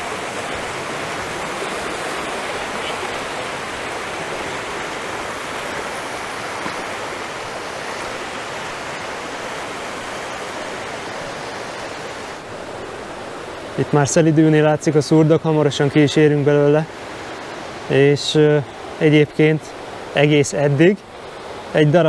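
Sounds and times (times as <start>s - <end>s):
river rushing through gorge: 0.0s - 22.0s.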